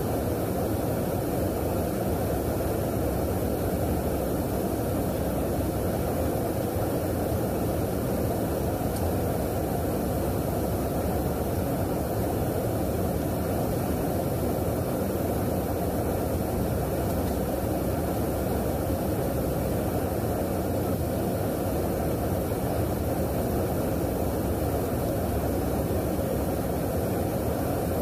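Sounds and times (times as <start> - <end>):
aircraft cabin drone: 0.0 - 28.0.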